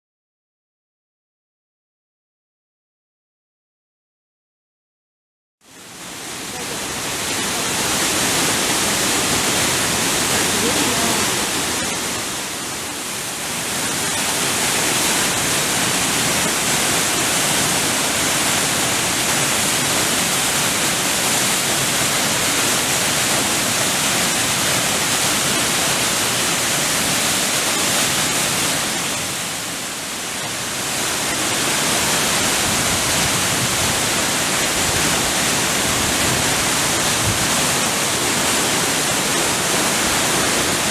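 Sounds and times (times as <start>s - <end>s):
waterfall rushing: 5.7s - 40.9s.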